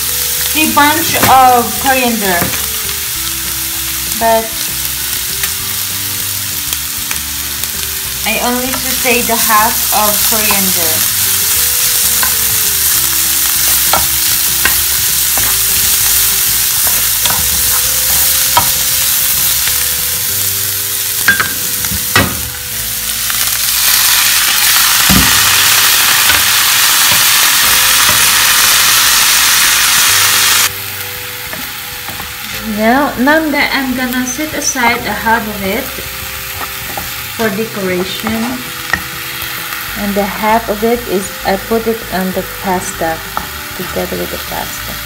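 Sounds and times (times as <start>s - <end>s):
garlic sizzling in oil: 0.0s - 45.0s.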